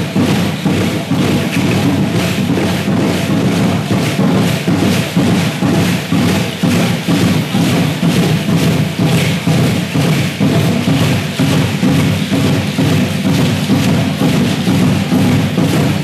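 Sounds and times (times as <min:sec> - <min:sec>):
continuous rattling: 0:00.0 - 0:16.0
drum beating driving rhythm: 0:00.0 - 0:16.0.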